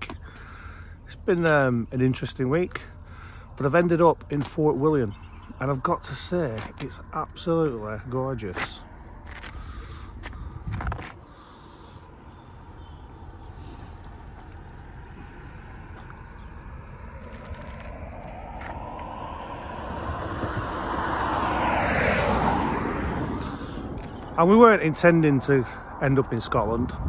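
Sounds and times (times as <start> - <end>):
road vehicle driving past: 0.4 - 27.0.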